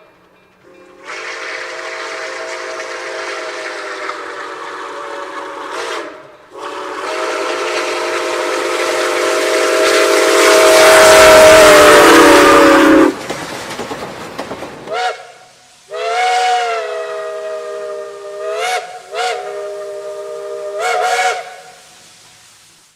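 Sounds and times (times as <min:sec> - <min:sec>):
steam locomotive whistle: 0:00.0 - 0:13.2, 0:14.9 - 0:22.3.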